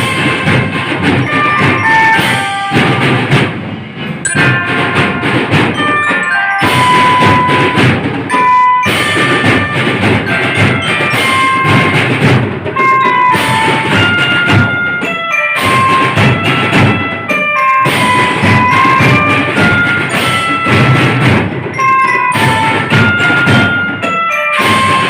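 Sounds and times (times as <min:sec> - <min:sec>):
mallet bells melody: 0:00.0 - 0:03.5, 0:04.2 - 0:25.0
marching drums: 0:00.0 - 0:25.0.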